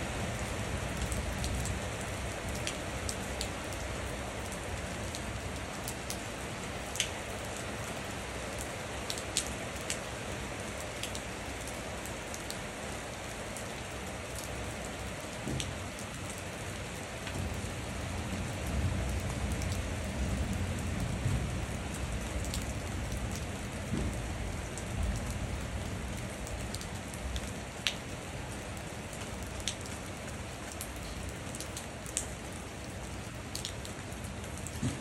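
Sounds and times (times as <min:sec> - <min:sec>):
rain on wet concrete: 0:00.0 - 0:35.0
sharp raindrop ticks: 0:00.9 - 0:10.1, 0:10.9 - 0:12.6, 0:14.1 - 0:35.0.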